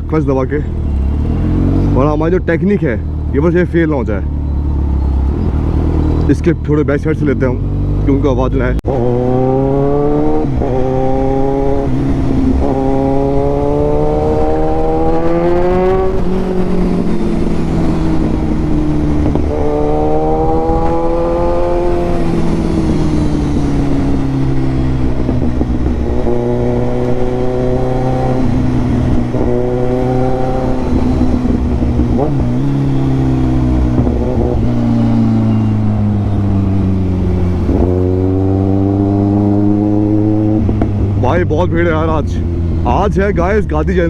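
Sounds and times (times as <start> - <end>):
motorcycle engine revving through gears: 0.0 - 2.3, 2.9 - 44.0.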